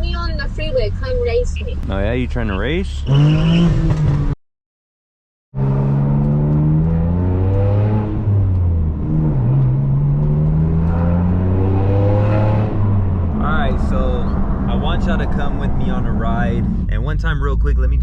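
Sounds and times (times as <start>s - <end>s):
car engine and exhaust driving: 0.0s - 4.4s, 5.6s - 18.0s.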